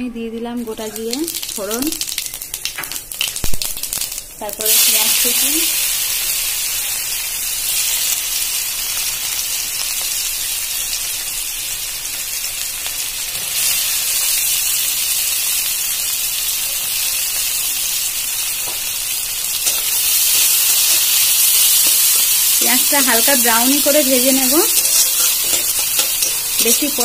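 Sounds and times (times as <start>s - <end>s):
oil sizzling: 0.6s - 27.0s.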